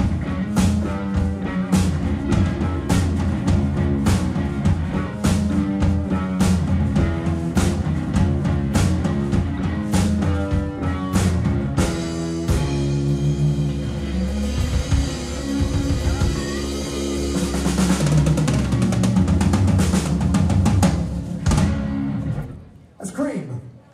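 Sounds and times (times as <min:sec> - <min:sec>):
drum roll: 0:00.0 - 0:22.5
rock band playing: 0:00.0 - 0:22.8.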